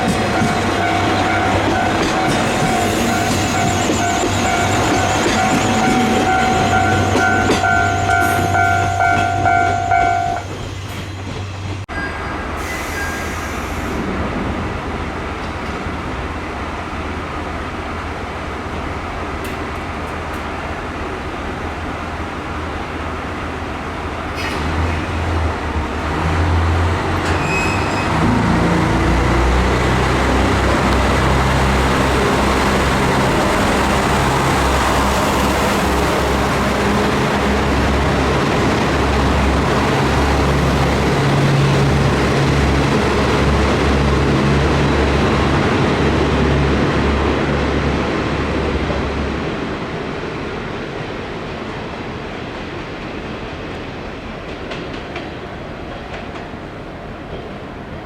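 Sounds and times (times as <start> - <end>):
diesel railcar running past: 0.0 - 58.0.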